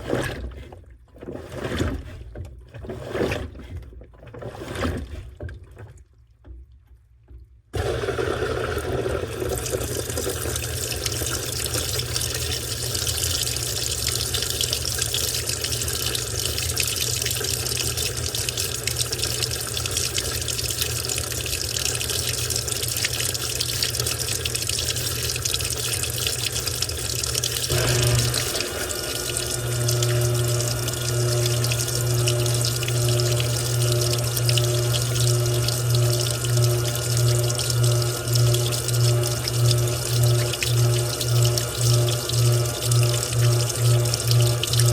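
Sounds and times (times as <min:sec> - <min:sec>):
water rushing into washing machine: 0:00.0 - 0:44.9.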